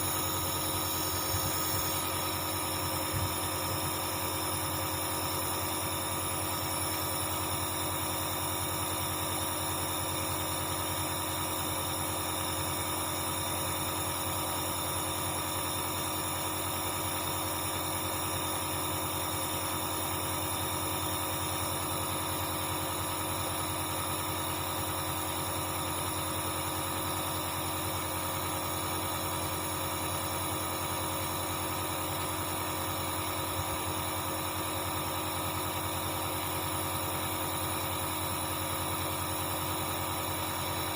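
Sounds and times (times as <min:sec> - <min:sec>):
nebulizer compressor humming: 0:00.0 - 0:40.9.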